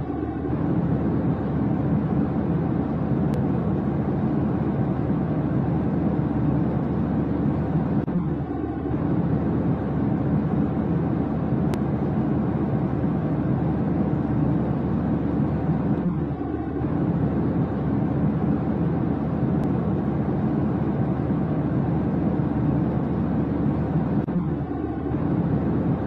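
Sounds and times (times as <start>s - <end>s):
low rumbling drone: 0.0s - 26.0s.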